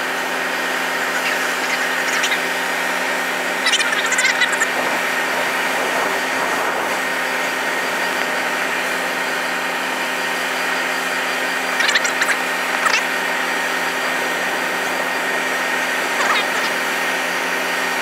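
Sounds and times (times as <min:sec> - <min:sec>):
heavy vehicle engines running: 0:00.0 - 0:18.0.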